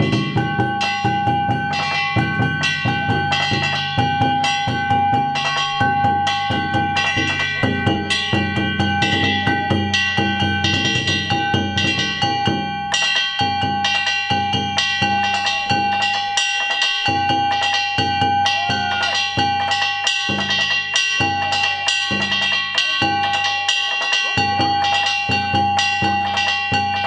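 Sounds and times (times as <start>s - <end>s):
metal hand gongs: 0.0s - 27.0s
taiko drums: 0.0s - 27.0s.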